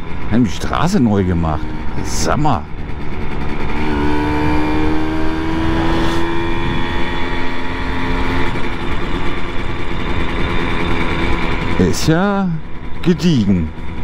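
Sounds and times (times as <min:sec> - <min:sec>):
moped engine running: 0:00.0 - 0:14.0.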